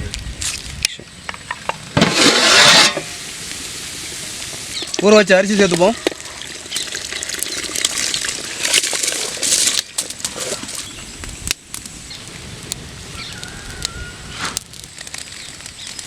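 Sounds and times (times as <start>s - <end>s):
patter of wet grains: 0.1s - 16.0s.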